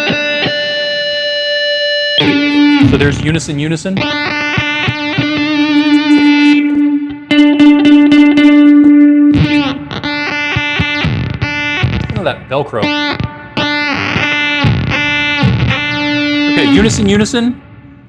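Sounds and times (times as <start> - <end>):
electric guitar synth tone: 0.0 - 18.0.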